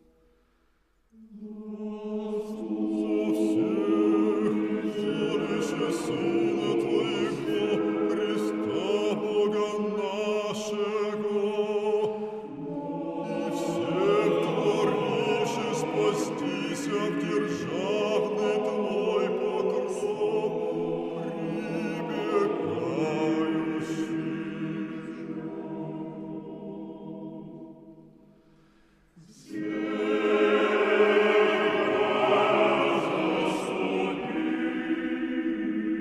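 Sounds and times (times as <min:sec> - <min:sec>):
choir singing: 0:01.1 - 0:28.3, 0:29.2 - 0:36.0.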